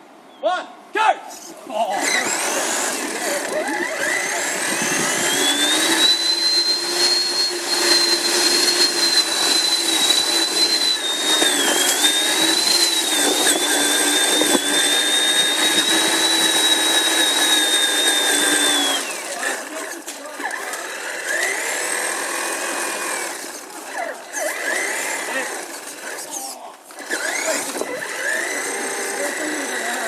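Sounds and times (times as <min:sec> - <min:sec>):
toy truck motor whining: 0:01.9 - 0:30.0.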